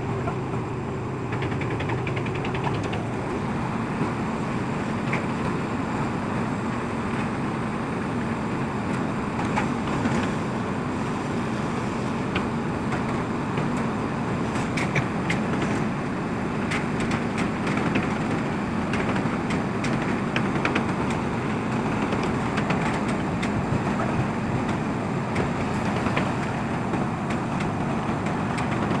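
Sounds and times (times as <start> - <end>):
machinery rumble: 0.0 - 29.0.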